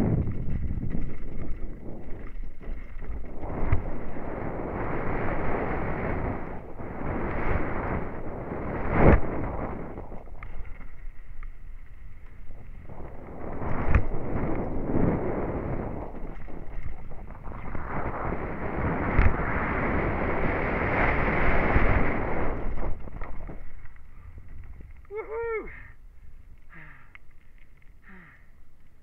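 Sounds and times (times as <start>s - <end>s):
bike tyres rattling over stone: 0.0s - 25.2s
wind rushing over microphone: 0.0s - 26.8s.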